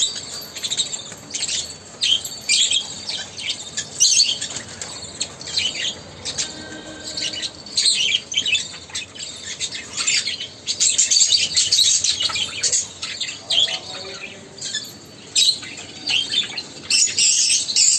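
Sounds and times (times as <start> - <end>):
birds chirping and squawking: 0.0 - 17.9.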